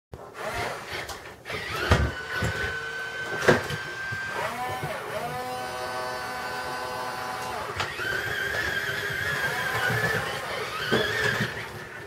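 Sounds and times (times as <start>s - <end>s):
electric toy motors whining: 0.4s - 12.0s.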